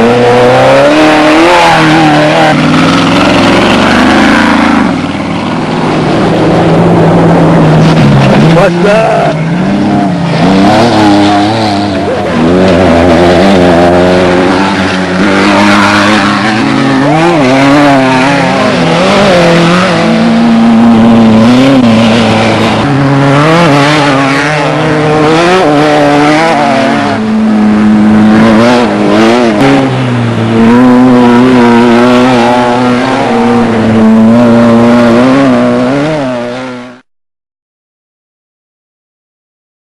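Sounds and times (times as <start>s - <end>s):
vehicle engines revving hard: 0.0s - 37.1s.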